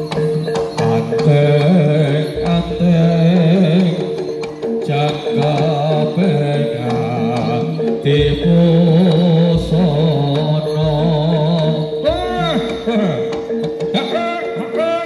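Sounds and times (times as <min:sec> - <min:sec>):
gamelan melody: 0:00.0 - 0:15.0.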